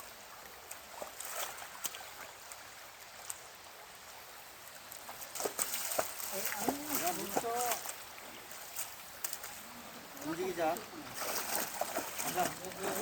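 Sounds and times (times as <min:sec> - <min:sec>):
stream water running: 0:00.0 - 0:13.0
small splashes: 0:00.5 - 0:03.5, 0:04.6 - 0:13.0.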